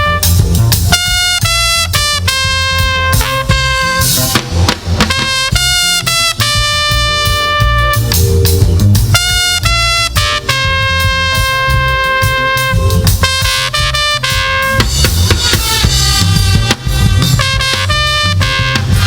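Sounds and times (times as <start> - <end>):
bass: 0.0 - 19.0
brass lead playing: 0.0 - 19.0
drums: 0.0 - 19.0.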